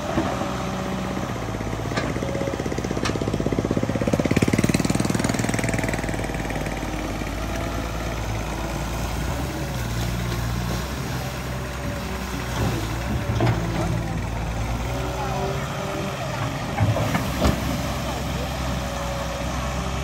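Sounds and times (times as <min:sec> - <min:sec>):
excavator diesel engine pulsing: 0:00.0 - 0:20.0.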